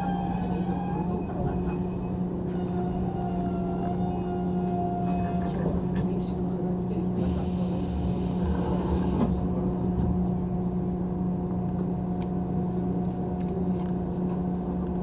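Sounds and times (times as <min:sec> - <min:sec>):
electric train running hum: 0:00.0 - 0:15.0.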